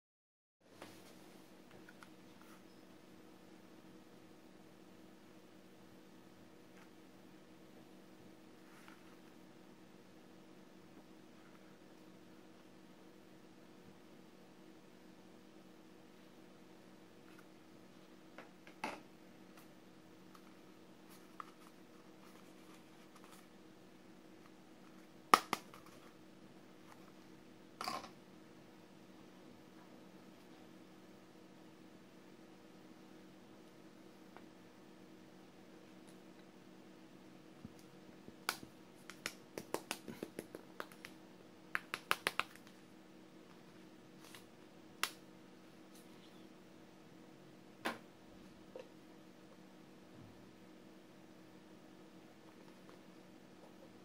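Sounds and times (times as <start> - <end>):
faint steady hum: 0.6 - 54.0.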